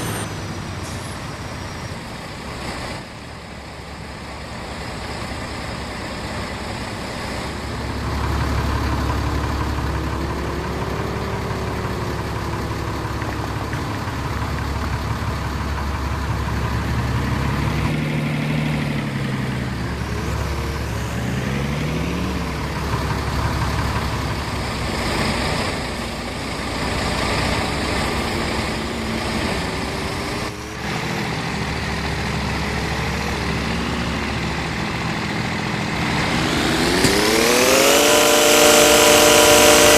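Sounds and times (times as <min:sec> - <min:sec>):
truck engines revving: 0:00.0 - 0:39.9.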